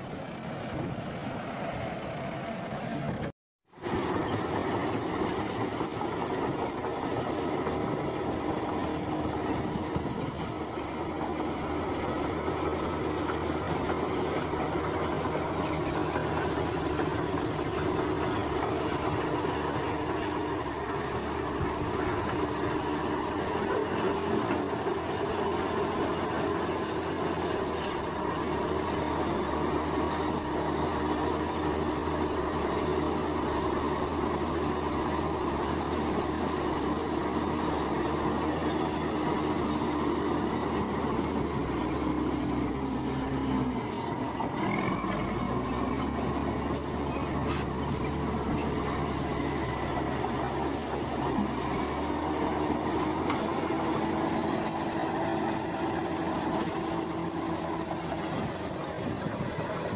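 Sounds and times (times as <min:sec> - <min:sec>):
diesel engine running: 0:00.1 - 0:59.9
steel tracks squealing and clattering: 0:03.7 - 0:59.9.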